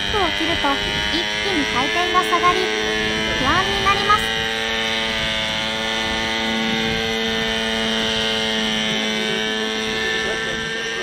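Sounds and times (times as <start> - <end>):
model helicopter engine and rotor: 0.0 - 11.0.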